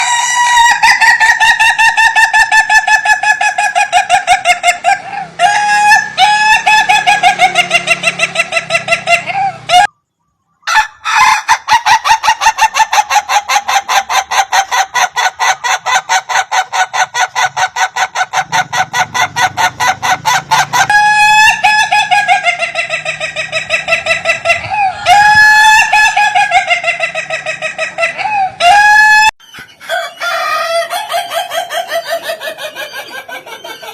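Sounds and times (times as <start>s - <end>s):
rooster crowing with laughing notes: 0.0s - 9.9s, 10.6s - 33.9s.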